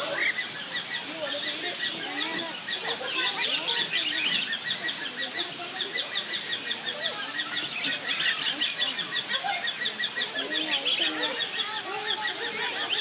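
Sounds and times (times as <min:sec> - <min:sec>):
birds chirping: 0:00.0 - 0:13.0
birds honking: 0:00.0 - 0:13.0.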